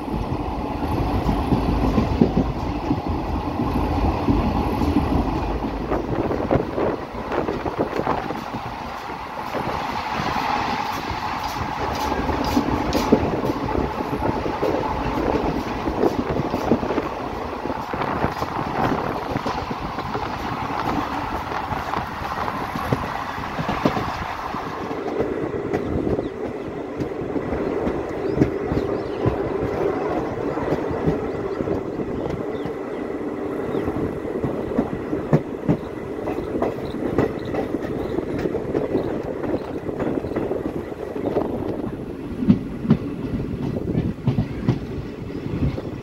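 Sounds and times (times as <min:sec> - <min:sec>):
train wheels rumbling on track: 0:00.0 - 0:46.0.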